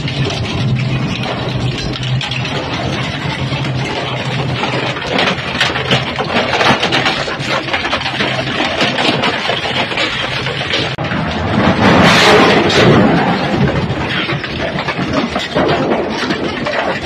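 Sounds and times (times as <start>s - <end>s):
material cracking and crunching: 0.0s - 17.0s.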